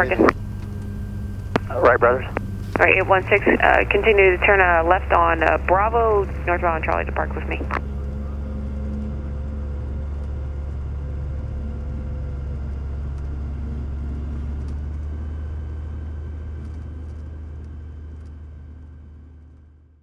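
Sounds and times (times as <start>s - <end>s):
propeller plane engine drone: 0.0s - 19.6s.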